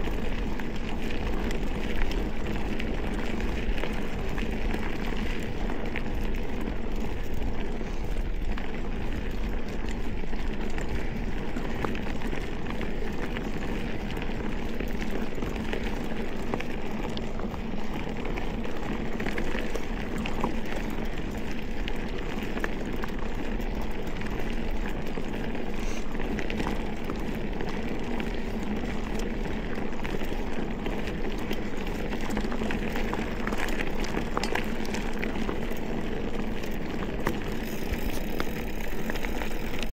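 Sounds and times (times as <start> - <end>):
bike clicks and rattles: 0.0 - 39.9
tyre and wind noise: 0.0 - 39.9.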